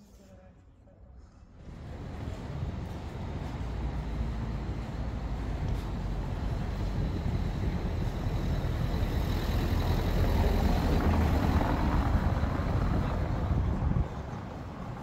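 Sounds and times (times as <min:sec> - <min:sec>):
vehicle passing on cobblestones: 0:01.5 - 0:15.0.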